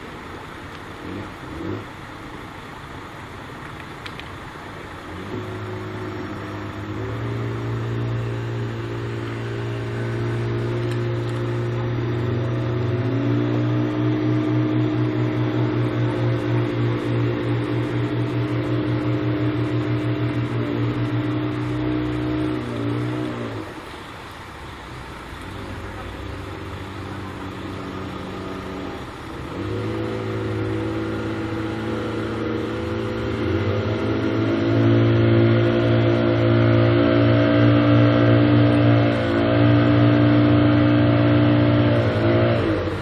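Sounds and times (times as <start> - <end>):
large engine humming: 0.0 - 43.0.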